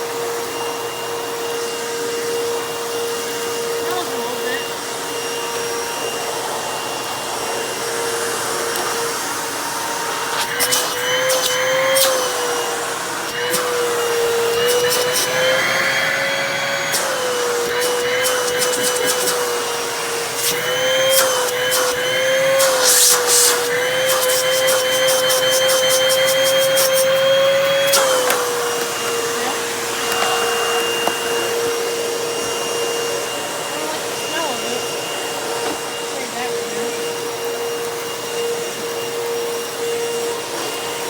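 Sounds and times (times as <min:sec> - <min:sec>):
vacuum cleaner motor whine: 0:00.0 - 0:41.0.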